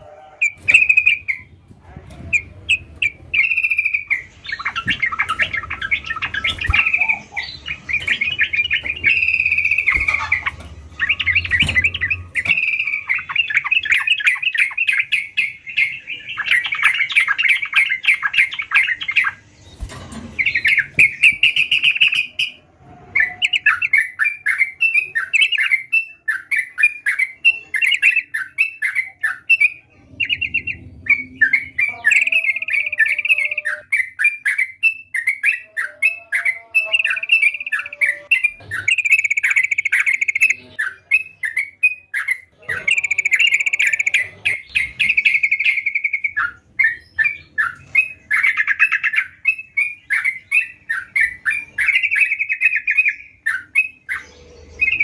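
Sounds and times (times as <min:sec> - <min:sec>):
bird chirping and chattering: 0:00.0 - 0:55.0.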